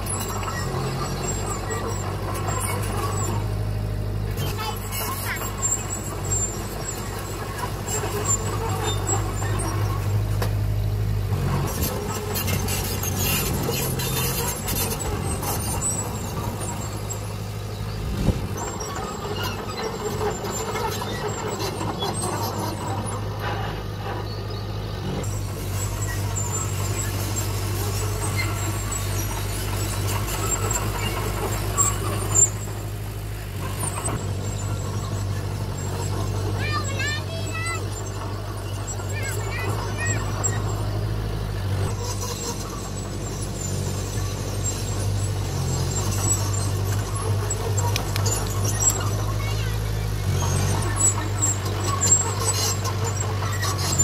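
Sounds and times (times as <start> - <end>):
bulldozer diesel engine running: 0.0 - 54.0
machine squealing: 0.0 - 54.0.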